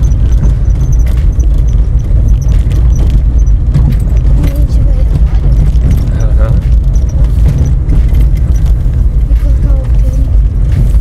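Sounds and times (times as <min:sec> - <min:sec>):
car engine and tyres rumbling: 0:00.0 - 0:11.0
rattles and knocks in car: 0:00.0 - 0:11.0.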